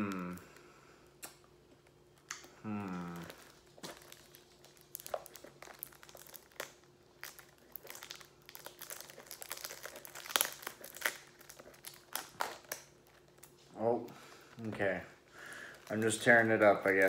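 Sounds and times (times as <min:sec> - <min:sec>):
cellophane crinkling: 0:01.7 - 0:17.0.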